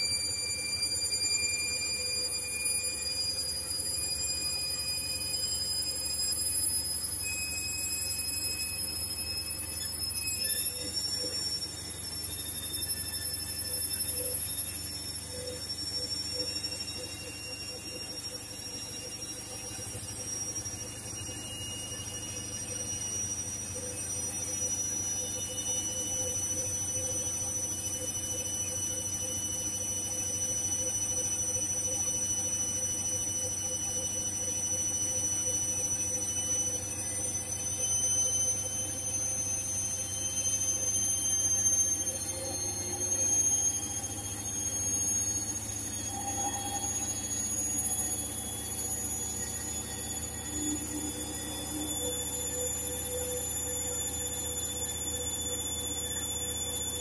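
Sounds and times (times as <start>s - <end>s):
washing machine spin whine: 0.0s - 57.0s.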